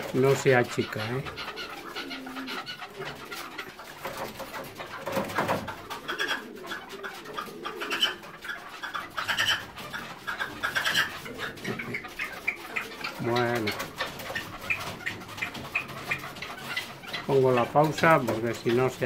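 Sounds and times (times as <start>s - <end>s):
partridges calling: 0.1s - 4.7s, 5.7s - 19.0s.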